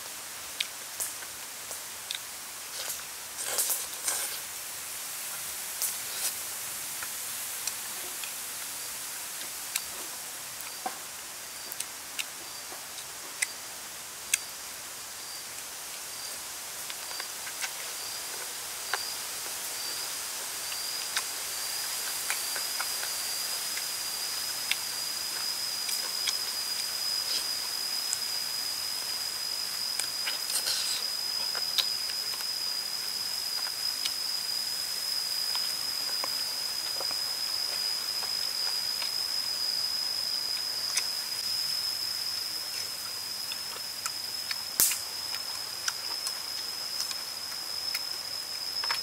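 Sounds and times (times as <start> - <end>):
forest ambience: 0.0 - 49.0
high insect drone: 0.0 - 49.0.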